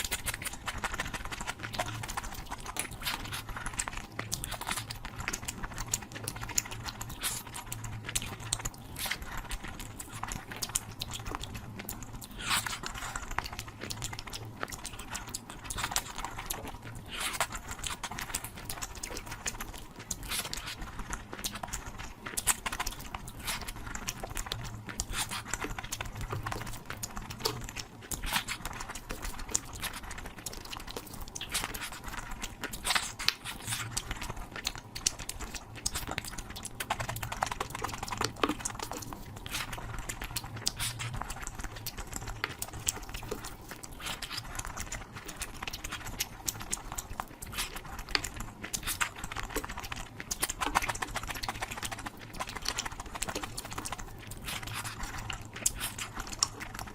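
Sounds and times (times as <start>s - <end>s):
wet chewing and lip smacks: 0.0s - 56.9s.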